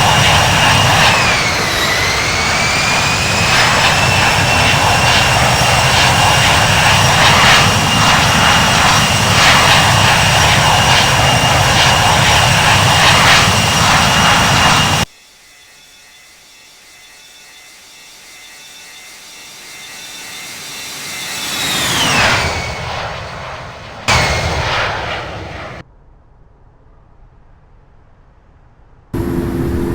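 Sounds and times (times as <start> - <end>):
jet passing: 0.0 - 15.1, 15.7 - 25.8, 29.2 - 29.9
falling jet whine: 0.0 - 25.8, 29.2 - 29.9
jet engine whine: 0.0 - 29.9.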